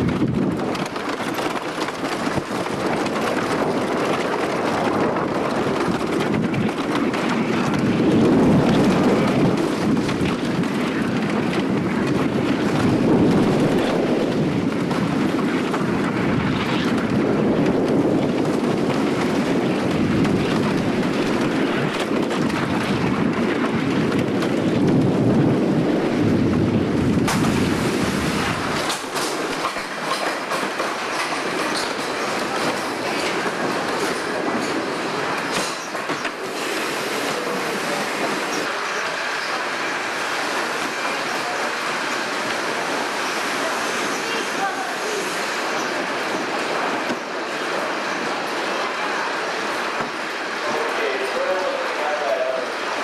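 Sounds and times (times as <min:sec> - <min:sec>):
roller coaster rumbling on wooden track: 0:00.0 - 0:53.0.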